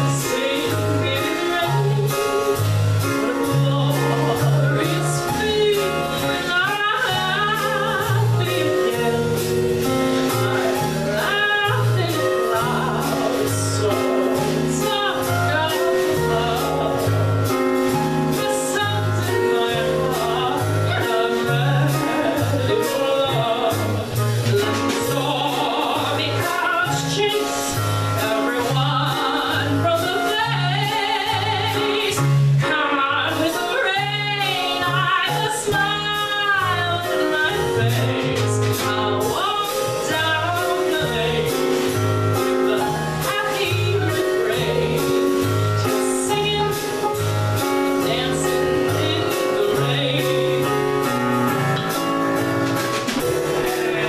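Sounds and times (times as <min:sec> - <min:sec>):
woman singing into a microphone: 0:00.0 - 0:17.6, 0:18.2 - 0:51.2, 0:53.4 - 0:54.0
live band of piano bass and drums: 0:00.0 - 0:54.0.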